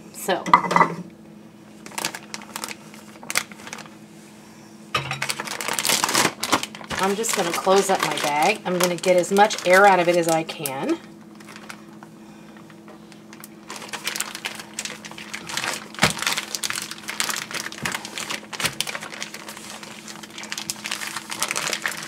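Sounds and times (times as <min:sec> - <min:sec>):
plastic bag crinkling: 0:01.8 - 0:04.0, 0:05.0 - 0:22.0.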